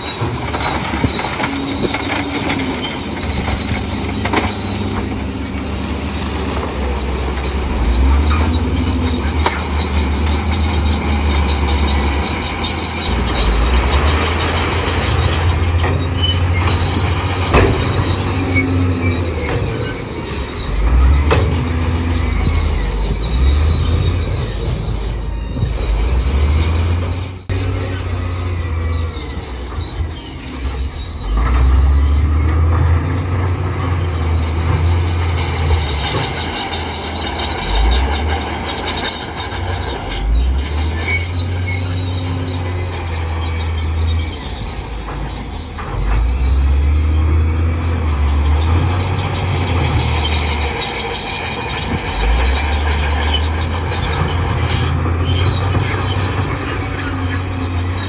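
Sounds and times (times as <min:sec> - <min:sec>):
diesel engine rumbling: 0:00.0 - 0:58.0
steel tracks squealing and clanking: 0:00.0 - 0:58.0.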